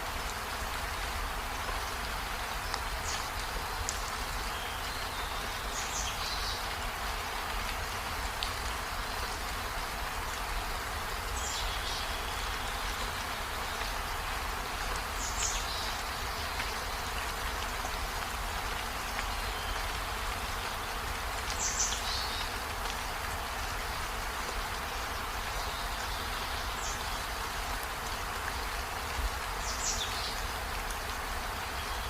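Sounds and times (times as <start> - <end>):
steady rainfall: 0.0 - 32.0.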